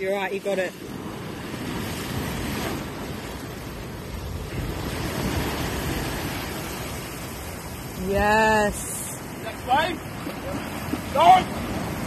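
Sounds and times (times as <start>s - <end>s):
waves washing against rocks: 0.0s - 12.0s.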